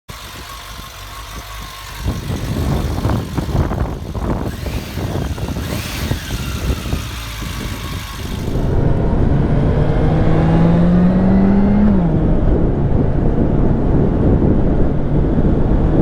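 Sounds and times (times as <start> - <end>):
motorcycle engine rumble: 0.0 - 16.0.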